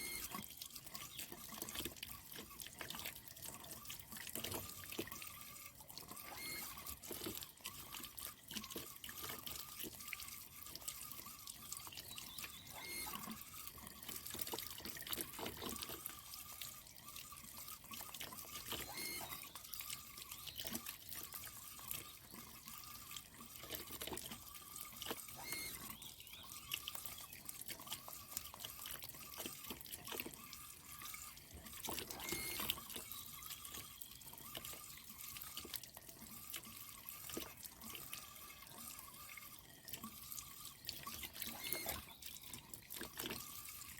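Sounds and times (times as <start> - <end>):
water trickling and dripping: 0.0 - 43.9.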